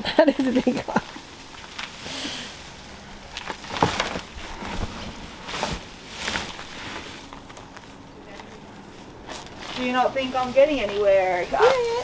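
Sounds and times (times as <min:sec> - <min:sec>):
leaves and stems rustling: 0:00.3 - 0:12.0.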